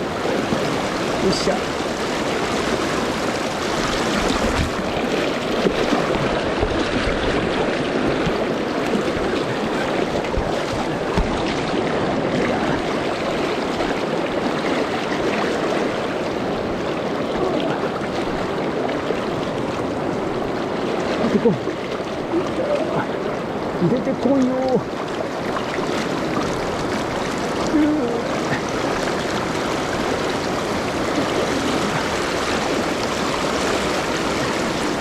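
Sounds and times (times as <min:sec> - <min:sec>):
river water rushing over rocks: 0:00.0 - 0:35.0.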